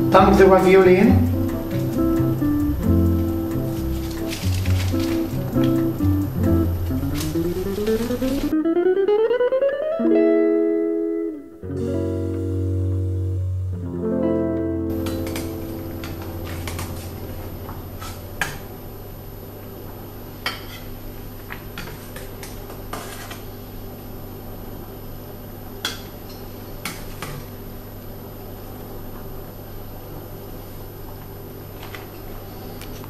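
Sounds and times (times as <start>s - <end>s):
low steady hum: 0.0s - 9.1s, 10.1s - 33.0s.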